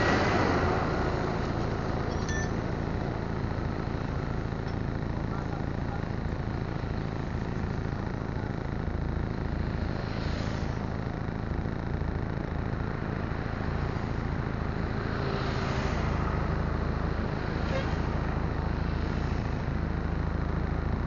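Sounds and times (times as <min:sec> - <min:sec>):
road traffic passing: 0:00.0 - 0:21.0
vehicle engine idling: 0:00.0 - 0:21.0.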